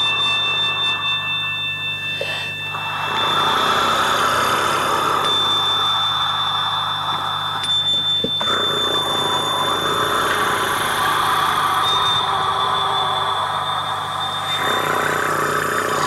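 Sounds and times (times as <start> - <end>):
high thin whistling tone: 0.0 - 16.0
low hum: 0.0 - 16.0.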